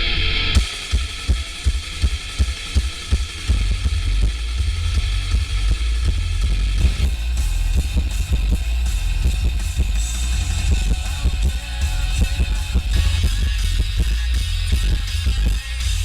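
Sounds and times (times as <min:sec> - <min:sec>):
rock music through car stereo: 0:00.0 - 0:16.0
heavy distorted bass kick drum: 0:00.5 - 0:16.0.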